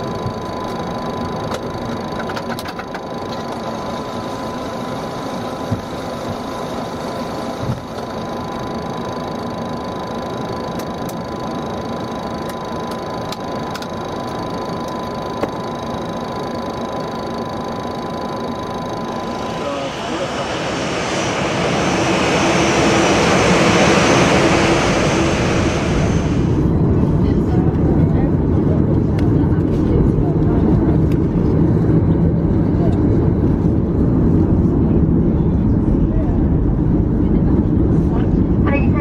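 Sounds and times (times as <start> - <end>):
jet engines idling rush: 0.0 - 39.0
thin steady whine: 0.0 - 39.0.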